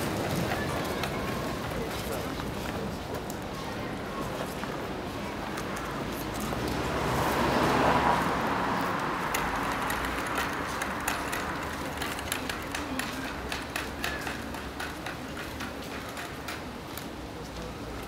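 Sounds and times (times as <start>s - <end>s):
footsteps of hard shoes on cobblestones: 0.0s - 18.0s
low crowd murmur: 0.0s - 18.0s.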